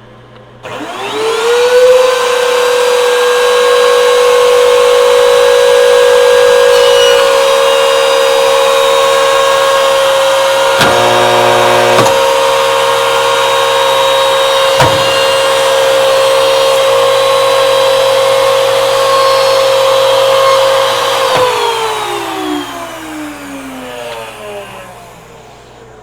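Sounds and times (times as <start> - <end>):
machine motors whining: 0.6 - 26.0.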